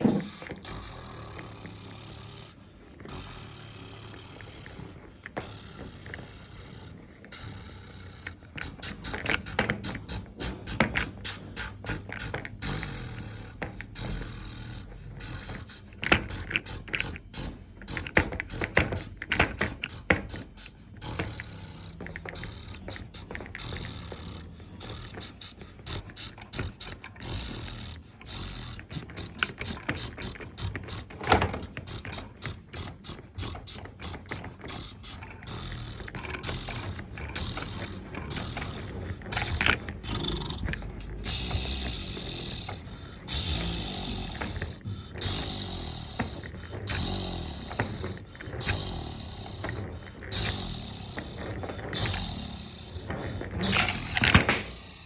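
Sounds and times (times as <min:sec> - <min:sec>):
rapid gear clicking: 0:00.0 - 0:55.0
toy motor whirring: 0:00.0 - 0:55.0.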